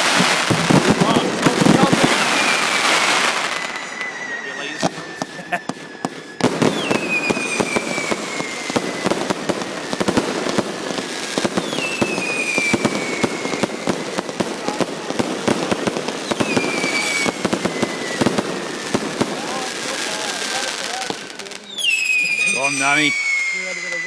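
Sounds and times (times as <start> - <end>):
falling firework whistles: 0.0 - 24.0
fireworks crackling and popping: 0.0 - 24.0.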